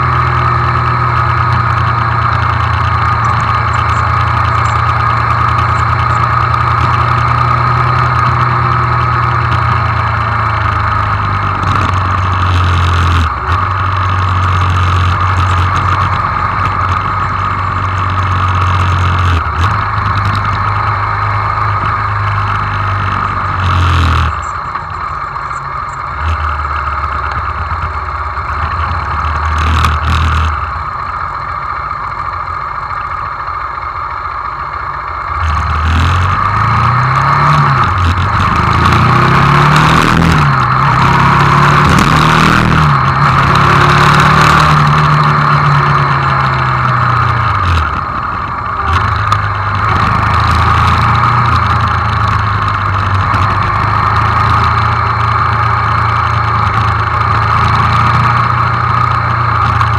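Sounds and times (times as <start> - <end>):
motorcycle engine downshifting: 0.0 - 59.9.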